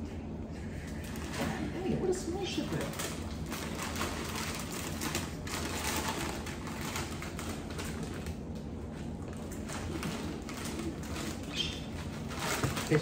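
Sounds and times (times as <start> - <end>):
plastic chip bag crinkling: 2.6 - 13.0.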